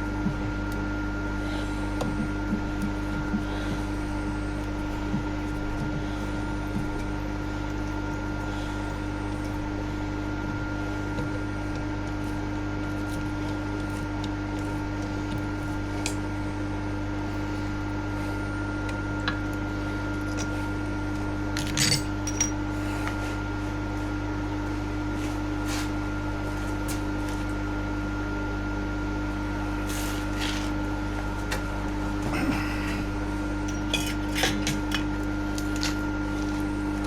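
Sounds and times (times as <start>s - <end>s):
milling machine motor hum: 0.0s - 37.0s.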